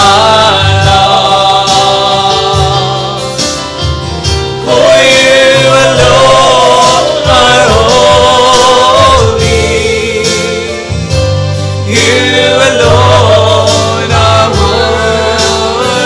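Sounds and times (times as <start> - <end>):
band playing: 0.0 - 16.0
gospel singers: 0.0 - 16.0.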